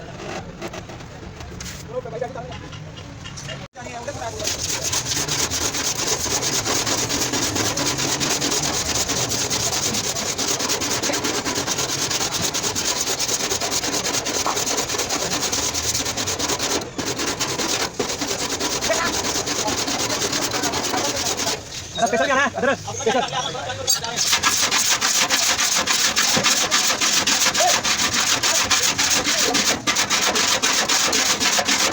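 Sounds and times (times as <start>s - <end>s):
sanding bodywork rasping: 4.1s - 23.2s, 24.2s - 31.9s.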